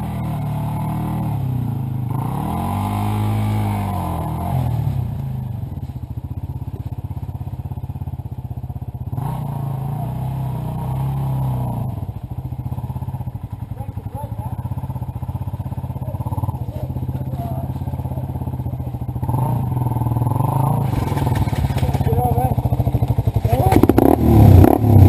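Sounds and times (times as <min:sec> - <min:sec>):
motorcycle engine idling: 0:00.0 - 0:25.0
motorcycle engine revving: 0:00.0 - 0:25.0.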